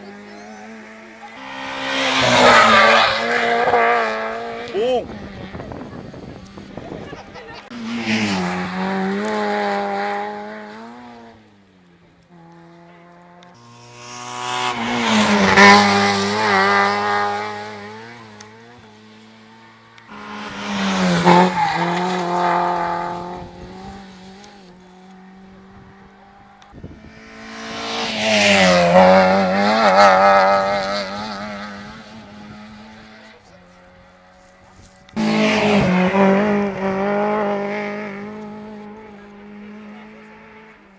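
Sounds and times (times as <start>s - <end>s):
rally cars passing at speed: 0.0s - 40.9s.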